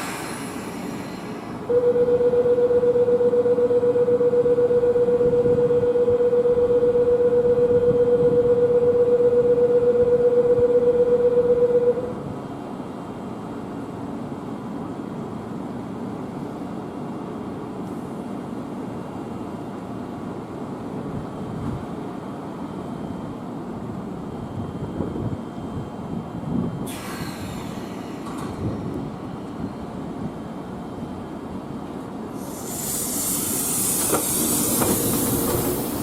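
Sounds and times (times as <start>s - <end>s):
electric train rumble: 0.0s - 36.0s.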